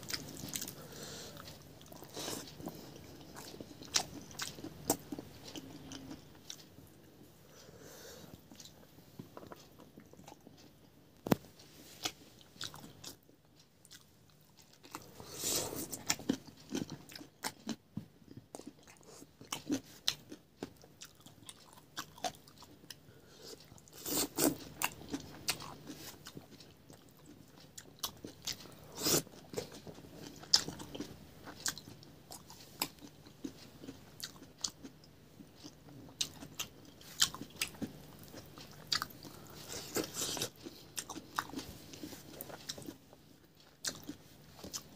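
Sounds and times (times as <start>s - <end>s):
faint low hum: 0.0s - 44.9s
person chewing and crunching food: 0.0s - 44.9s.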